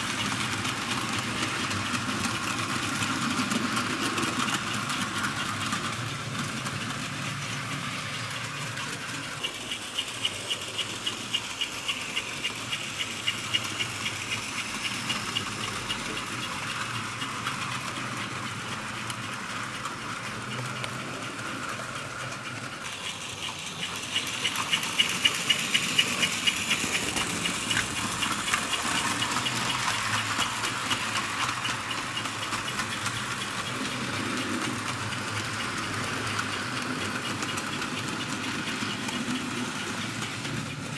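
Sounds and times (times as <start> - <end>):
model train motor hum: 0.0 - 40.9
wheels clicking over rail joints: 0.0 - 40.9.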